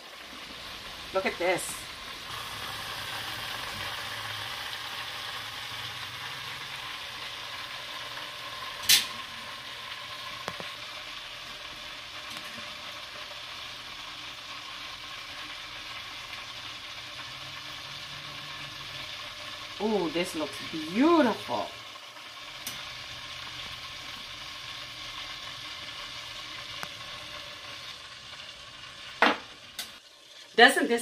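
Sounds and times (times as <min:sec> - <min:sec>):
chicken sizzling in deep fryer: 0:00.0 - 0:31.0.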